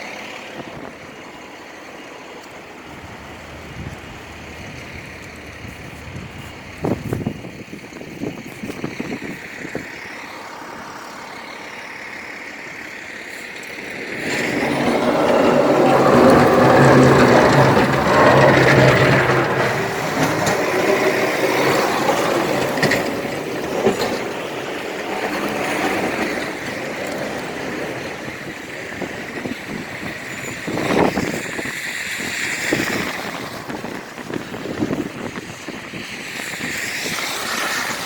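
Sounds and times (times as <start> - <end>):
heavy vehicle engine passing: 0.0 - 38.0
street noise: 0.0 - 38.0.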